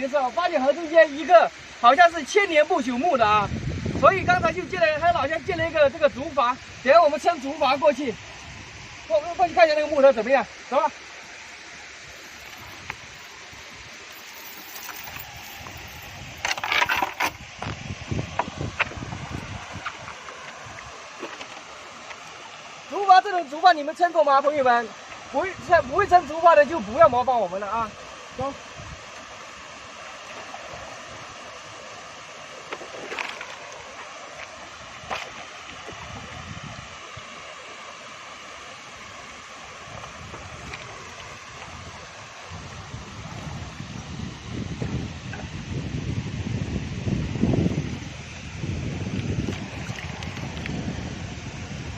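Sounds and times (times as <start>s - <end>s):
river water rushing: 0.0s - 46.0s, 47.0s - 51.9s.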